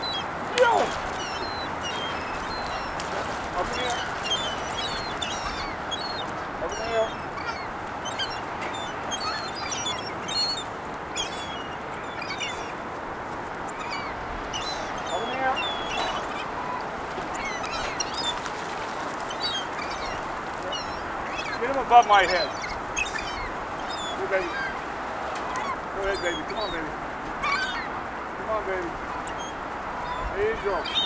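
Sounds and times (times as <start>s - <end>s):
gulls calling: 0.0s - 31.0s.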